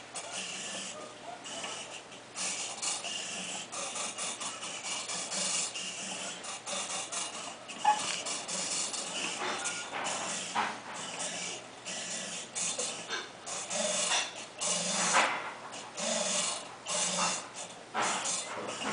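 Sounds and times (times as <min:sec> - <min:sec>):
small motors whirring: 0:00.0 - 0:18.9.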